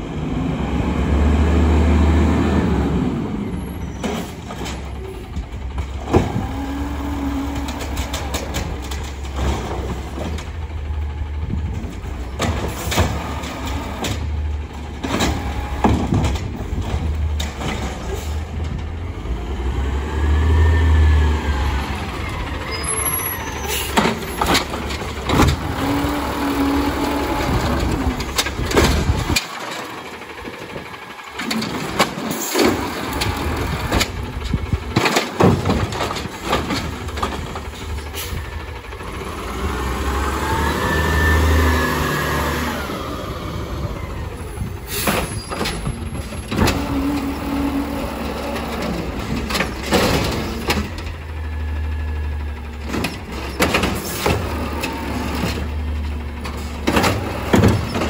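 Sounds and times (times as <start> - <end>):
garbage truck engine rumble: 0.0 - 58.0
truck knocks: 3.8 - 19.0, 21.8 - 40.2, 43.4 - 51.5, 52.1 - 58.0.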